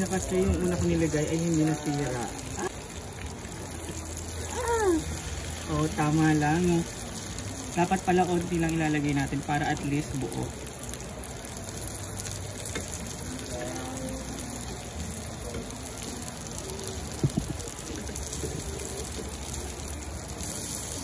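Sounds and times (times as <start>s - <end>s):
fritters sizzling in oil: 0.0s - 21.0s.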